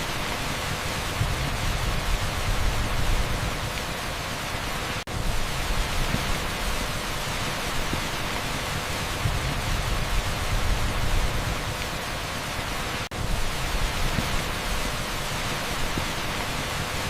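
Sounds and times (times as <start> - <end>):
torrential rain on asphalt: 0.0 - 17.0.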